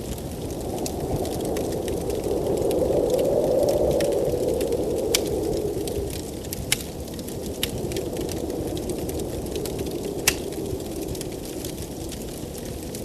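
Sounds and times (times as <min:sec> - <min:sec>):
blizzard wind rushing: 0:00.0 - 0:13.0
wood fire crackling and popping: 0:00.0 - 0:13.0.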